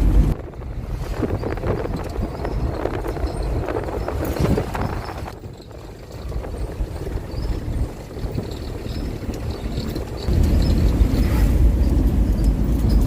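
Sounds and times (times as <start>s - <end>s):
vehicle rumble and road noise: 0.0s - 13.0s
rattles and knocks: 1.2s - 13.0s.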